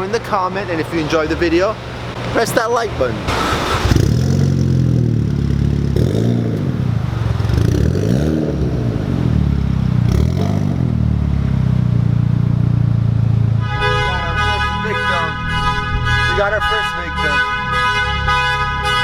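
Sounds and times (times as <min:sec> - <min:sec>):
sports car engine revving: 0:01.3 - 0:19.0.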